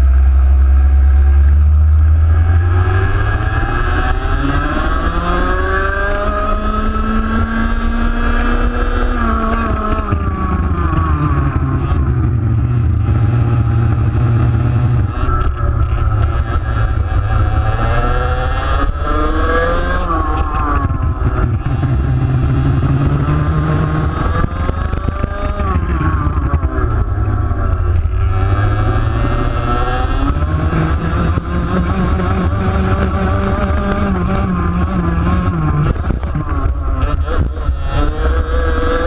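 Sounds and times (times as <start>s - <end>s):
kart engine accelerating: 0.0s - 39.0s.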